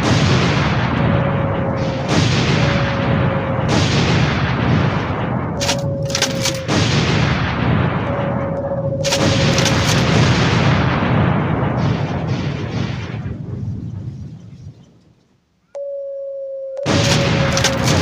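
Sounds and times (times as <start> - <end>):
sharp cracks: 0.0 - 13.6, 16.8 - 18.0
bomb explosions with rumble: 0.0 - 14.8, 16.8 - 18.0.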